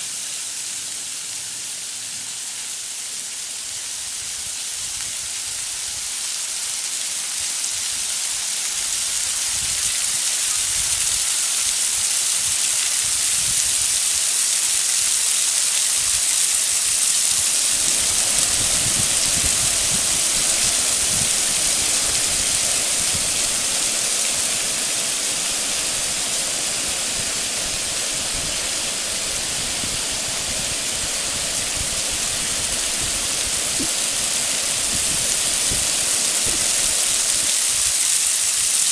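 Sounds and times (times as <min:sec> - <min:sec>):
waterfall rushing: 0:06.2 - 0:38.9.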